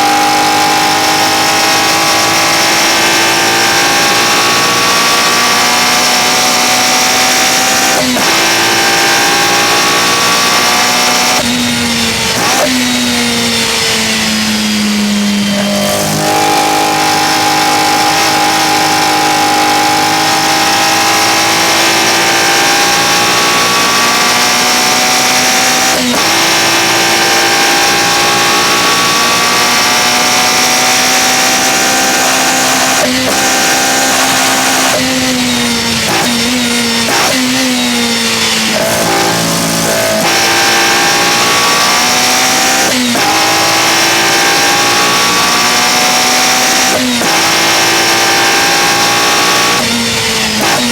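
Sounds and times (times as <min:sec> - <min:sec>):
car engine revving with gear shifts: 0:00.0 - 0:50.9.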